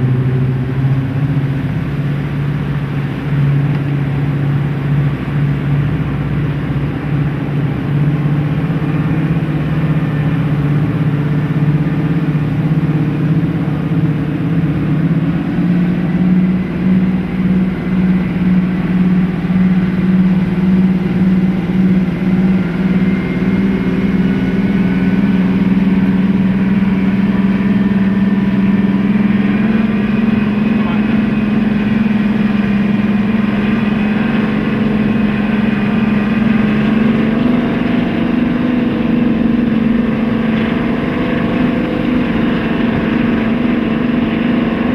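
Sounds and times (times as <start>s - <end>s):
diesel locomotive engines droning: 0.0s - 44.9s.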